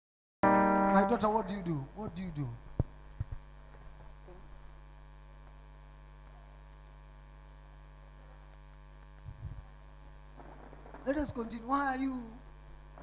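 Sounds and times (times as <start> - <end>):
electrical mains hum: 0.4 - 13.0.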